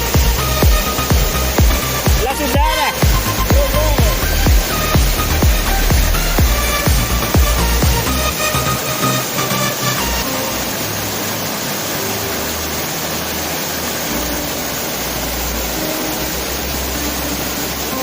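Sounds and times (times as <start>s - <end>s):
background music: 0.0s - 18.0s
waterfall rushing: 0.0s - 18.0s.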